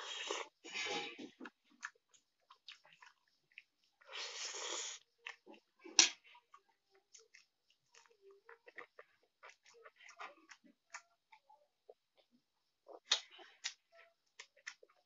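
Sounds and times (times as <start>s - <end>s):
wet chewing and lip clicks: 1.2s - 15.0s.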